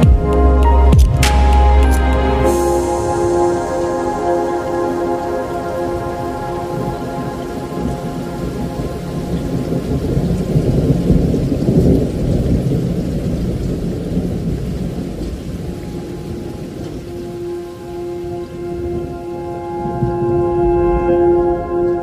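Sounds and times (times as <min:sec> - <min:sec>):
heavy rain falling: 0:00.0 - 0:22.0
low rumble of thunder: 0:02.5 - 0:22.0.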